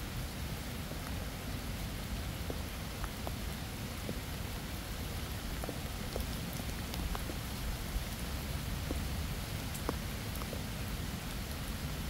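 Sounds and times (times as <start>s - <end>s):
separate raindrops: 0.0s - 12.0s
steady rain falling: 0.0s - 12.0s.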